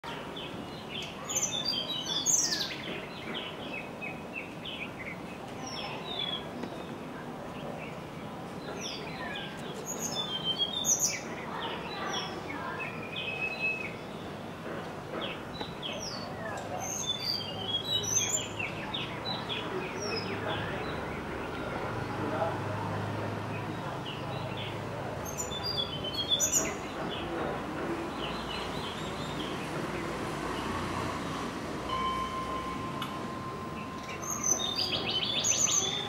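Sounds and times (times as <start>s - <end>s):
songbirds chirping and whistling: 0.1s - 22.5s, 23.4s - 36.0s.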